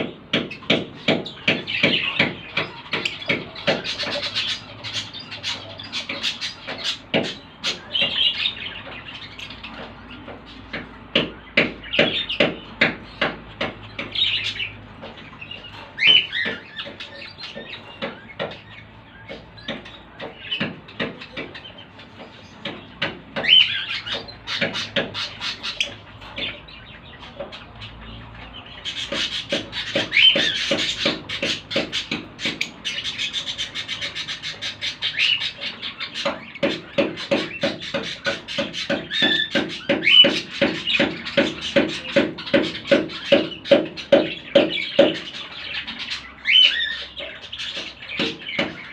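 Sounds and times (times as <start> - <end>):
lovebirds chirping: 0.0 - 48.9.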